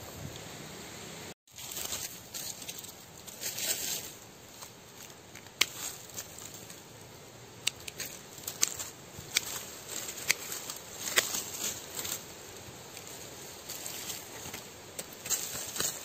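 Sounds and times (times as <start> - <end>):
rustling dry leaves and twigs: 1.5 - 16.0
pruning shears snipping: 1.8 - 6.8, 7.6 - 16.0.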